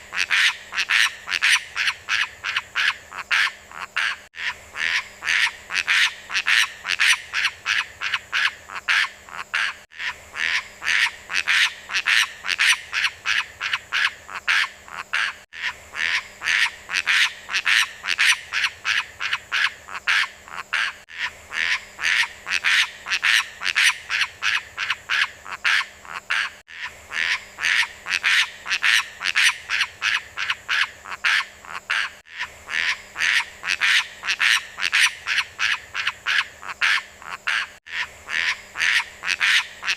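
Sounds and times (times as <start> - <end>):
rapid chirping animal calls: 0.0 - 39.9.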